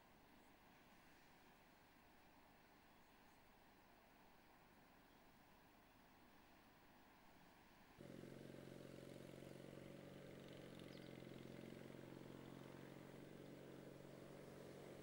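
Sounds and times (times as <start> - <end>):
faint low mechanical hum: 0.0 - 15.0.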